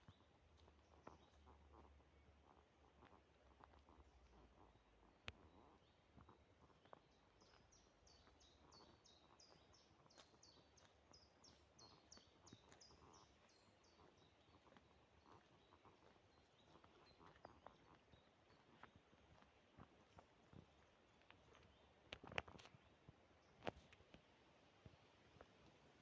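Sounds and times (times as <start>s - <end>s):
songbird singing: 0.0s - 23.9s
faint forest ambience: 0.0s - 26.0s.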